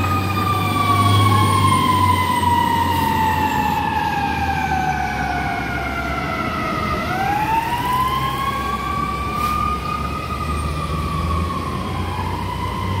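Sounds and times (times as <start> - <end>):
fire truck siren wailing: 0.0 - 13.0
heavy truck engine rumbling: 0.0 - 13.0.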